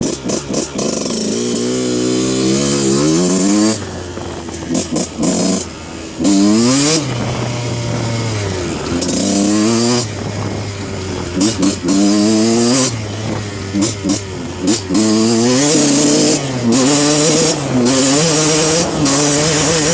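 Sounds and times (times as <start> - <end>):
two-stroke motocross bike revving: 0.0 - 19.9.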